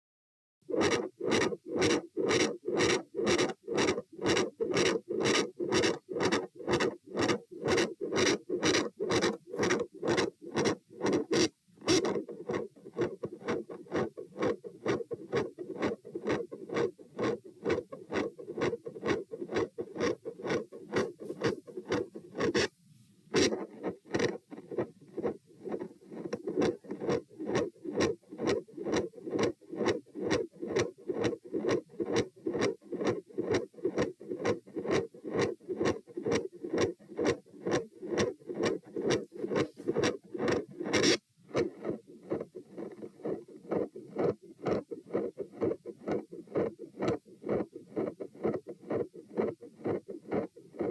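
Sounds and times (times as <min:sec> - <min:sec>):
continuous heart murmur: 0:01.3 - 0:22.7, 0:23.3 - 0:50.9.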